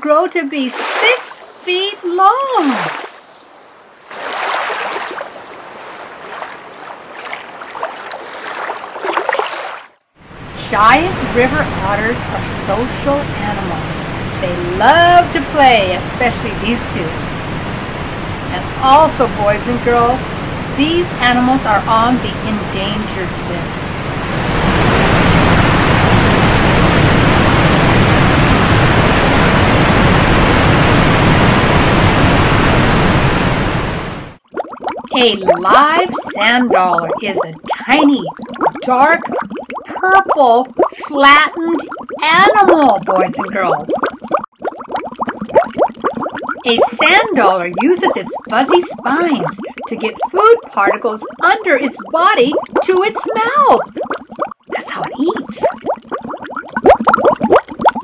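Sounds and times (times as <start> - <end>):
running water: 0.6 - 58.0.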